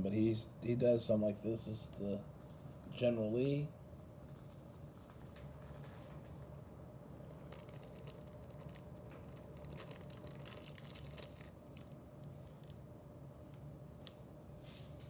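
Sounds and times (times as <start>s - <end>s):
low steady hum: 0.0s - 15.0s
faint clicks and rustles: 1.9s - 3.1s, 3.9s - 15.0s.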